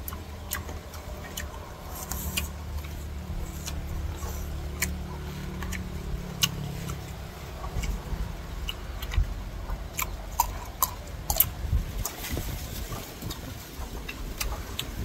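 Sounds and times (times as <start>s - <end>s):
idling car hum: 0.0s - 15.0s
people biting crisp fruit: 0.0s - 15.0s.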